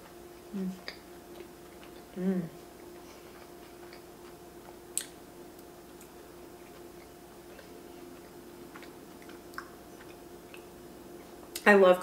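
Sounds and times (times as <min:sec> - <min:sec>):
faint steady hum: 0:00.0 - 0:12.0
soft mouth clicks chewing: 0:00.8 - 0:02.2, 0:02.8 - 0:11.7.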